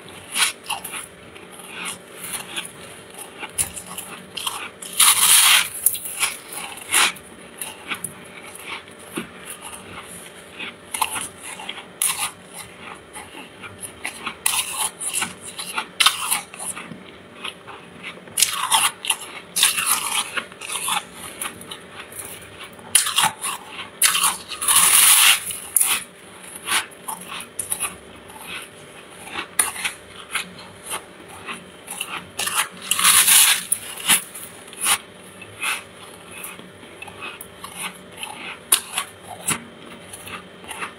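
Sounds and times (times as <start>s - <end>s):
faint steady hum: 0.0s - 40.9s
frost being chewed: 0.0s - 40.9s.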